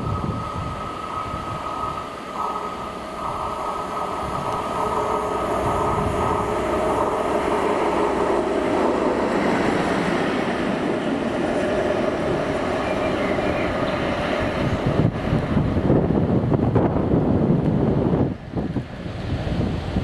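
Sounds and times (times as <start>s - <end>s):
diesel locomotive engine passing: 0.0s - 20.0s.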